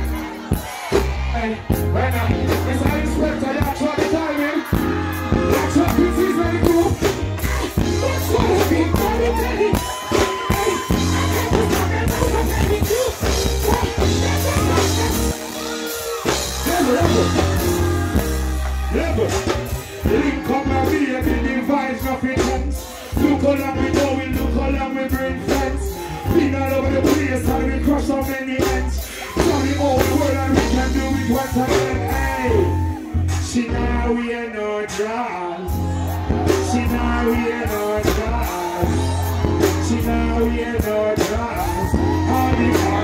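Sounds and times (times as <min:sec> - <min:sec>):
deep bass line: 0:00.0 - 0:34.8, 0:35.6 - 0:43.0
live reggae band: 0:00.0 - 0:43.0
man singing: 0:00.0 - 0:43.0.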